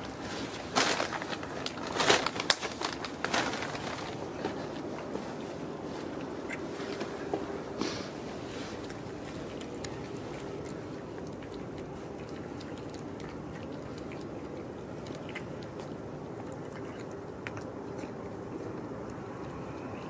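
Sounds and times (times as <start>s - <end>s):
cats chewing and licking food: 0.0s - 20.0s
low background rumble: 0.0s - 20.0s.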